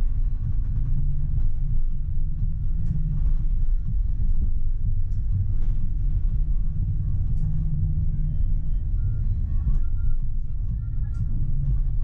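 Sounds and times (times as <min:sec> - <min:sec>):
tram rumbling on track: 0:00.0 - 0:12.0.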